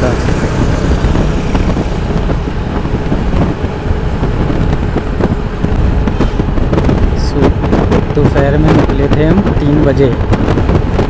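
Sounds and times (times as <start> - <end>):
low road rumble: 0.0 - 11.0
wind rush on microphone: 0.0 - 11.0.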